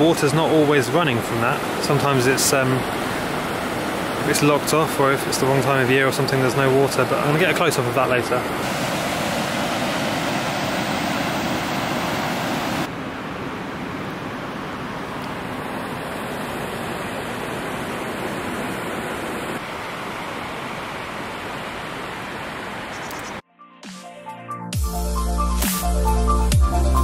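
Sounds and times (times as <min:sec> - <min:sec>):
river water rushing over weir: 0:00.0 - 0:22.9.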